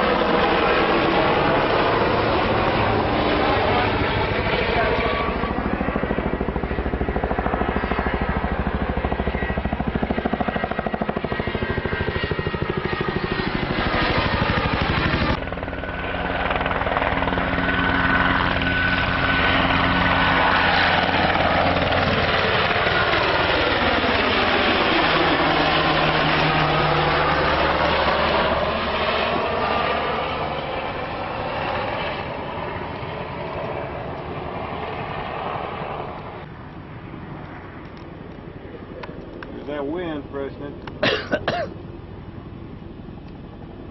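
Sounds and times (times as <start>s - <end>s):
helicopter rotor blades beating: 0.0s - 43.9s.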